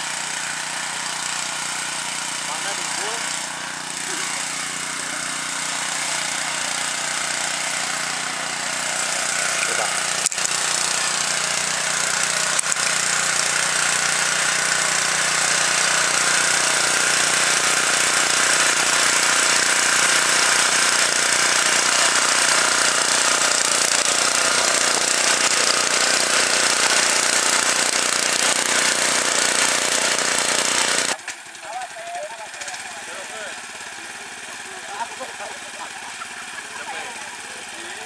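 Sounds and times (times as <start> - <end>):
small petrol engine running: 0.0 - 38.0.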